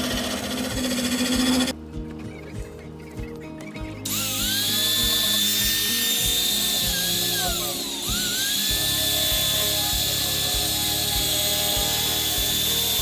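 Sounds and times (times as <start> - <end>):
power tool motor whining: 0.0 - 1.7, 4.1 - 13.0
music with steady beat: 0.0 - 13.0.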